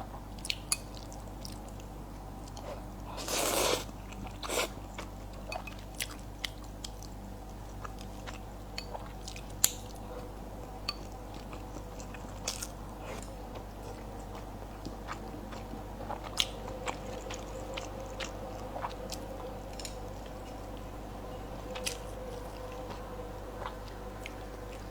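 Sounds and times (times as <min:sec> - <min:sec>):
steady low hum: 0:00.0 - 0:24.9
mouth chewing with wet clicks: 0:00.4 - 0:20.9.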